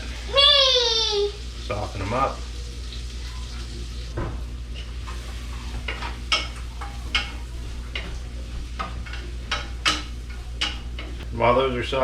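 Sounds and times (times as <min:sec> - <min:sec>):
mushrooms sizzling in a pan: 0:00.0 - 0:12.0
steady low hum: 0:02.4 - 0:12.0.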